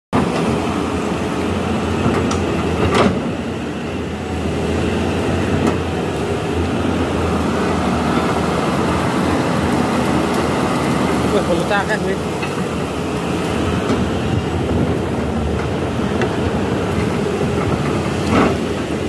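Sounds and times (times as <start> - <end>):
excavator diesel engine running: 0.2 - 19.0.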